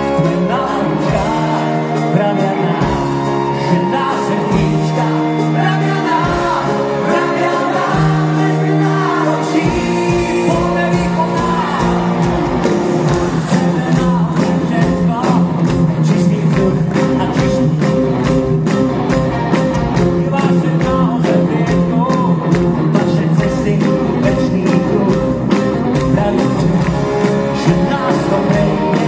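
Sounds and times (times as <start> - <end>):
drums: 0.0 - 29.0
live pop-rock band with singing: 0.0 - 29.0.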